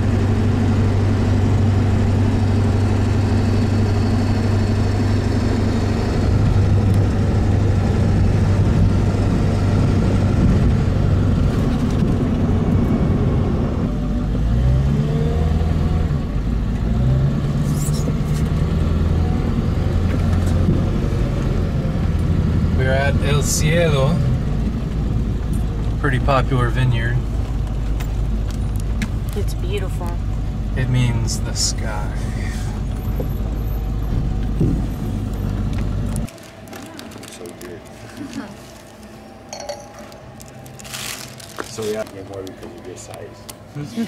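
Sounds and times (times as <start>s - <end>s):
truck engine and road noise: 0.0s - 44.0s.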